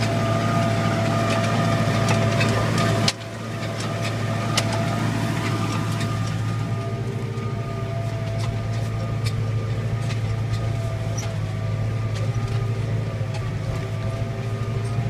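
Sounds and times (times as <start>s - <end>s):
steady whine: 0.0s - 15.0s
tractor diesel engine running: 0.0s - 15.0s.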